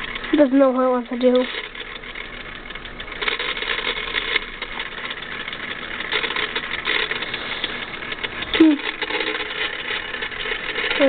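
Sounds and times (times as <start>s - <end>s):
electric clock motor buzzing: 0.0s - 11.0s.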